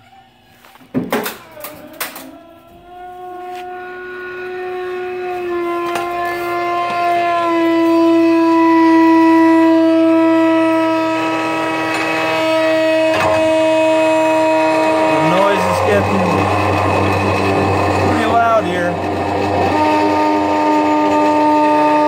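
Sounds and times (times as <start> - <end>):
hydraulic ram whining tone: 0.0 - 22.0.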